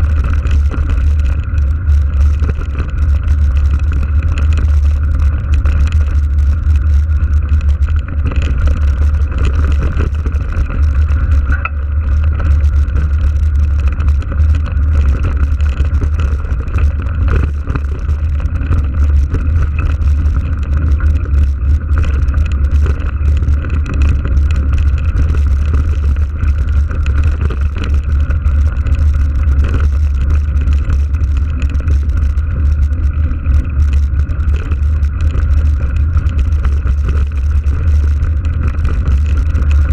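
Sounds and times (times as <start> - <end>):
bike tyres rolling on gravel: 0.0 - 39.9
wind buffeting microphone: 0.0 - 39.9.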